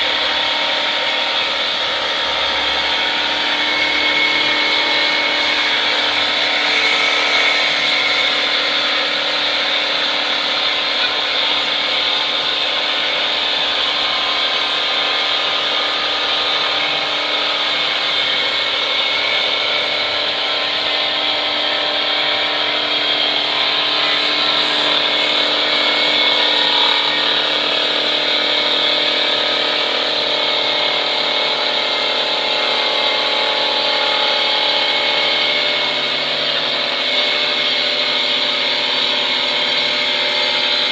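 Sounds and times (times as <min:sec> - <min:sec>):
rasping wood cutting: 0:00.0 - 0:40.9
wood lathe machine hum: 0:00.0 - 0:40.9.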